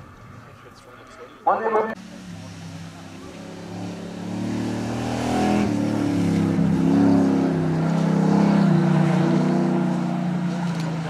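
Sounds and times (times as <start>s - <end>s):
car engine accelerating: 2.0s - 11.0s.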